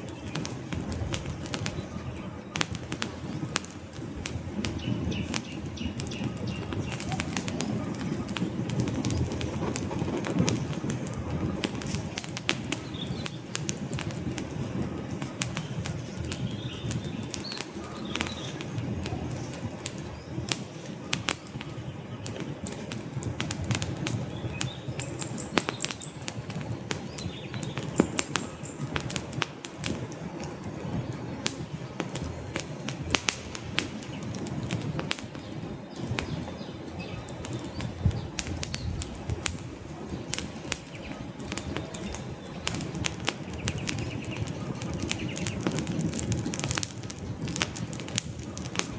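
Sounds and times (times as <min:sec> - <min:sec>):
low rumble of flames: 0:00.0 - 0:48.9
wood fire crackling and popping: 0:00.0 - 0:48.9.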